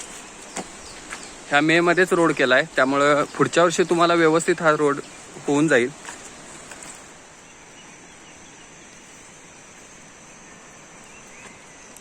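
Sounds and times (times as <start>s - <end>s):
high insect drone: 0.0s - 12.0s
rushing hiss: 0.0s - 12.0s.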